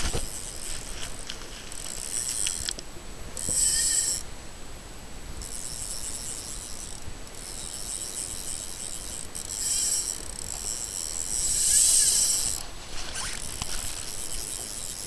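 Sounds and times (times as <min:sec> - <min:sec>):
fishing reel whirring: 0:00.1 - 0:02.8, 0:03.4 - 0:04.3, 0:05.4 - 0:15.0.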